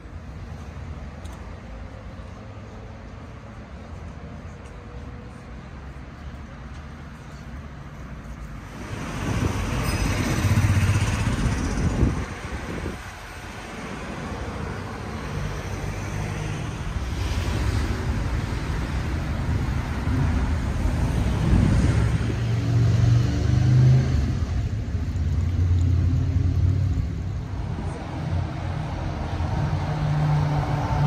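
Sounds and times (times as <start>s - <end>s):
cars driving past: 0.0s - 31.0s
low engine hum of vehicle: 0.0s - 31.0s.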